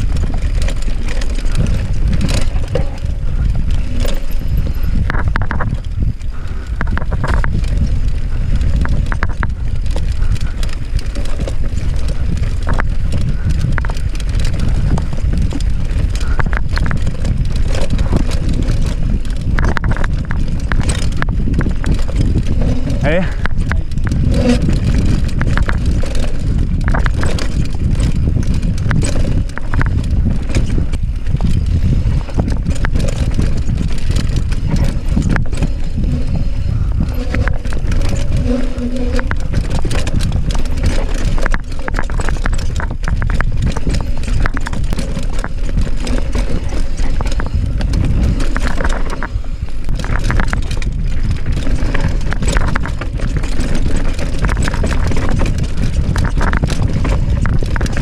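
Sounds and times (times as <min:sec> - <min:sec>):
bike rattling over rough ground: 0:00.0 - 0:58.0
wind rush on microphone: 0:00.0 - 0:58.0.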